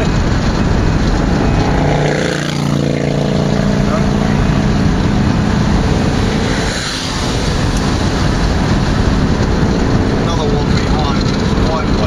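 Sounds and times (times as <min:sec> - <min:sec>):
vehicle engine drone: 0:00.0 - 0:12.0
wind and road noise: 0:00.0 - 0:12.0.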